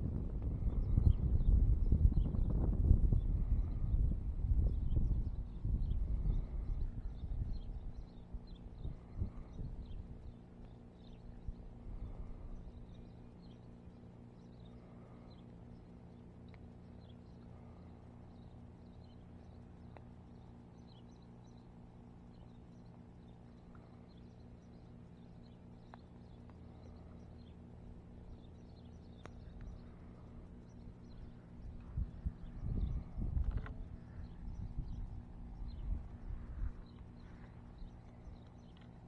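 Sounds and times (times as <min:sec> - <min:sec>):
low hum: 0:00.0 - 0:39.0
small birds chirping: 0:00.0 - 0:39.0.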